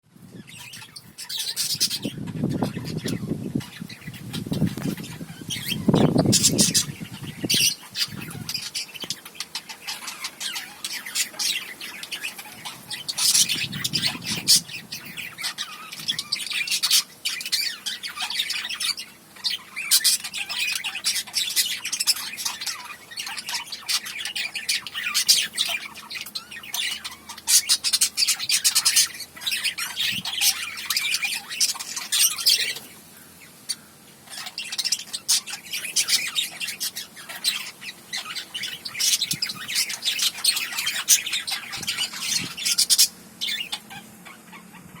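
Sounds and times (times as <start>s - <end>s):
parrots chirping and squawking: 0.2s - 45.0s.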